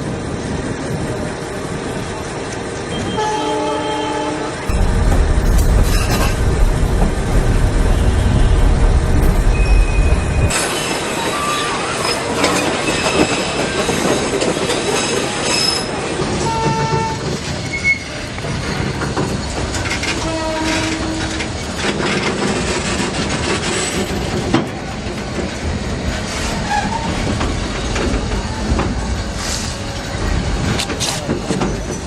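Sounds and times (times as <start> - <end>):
train rumbling and clattering: 0.0 - 32.0.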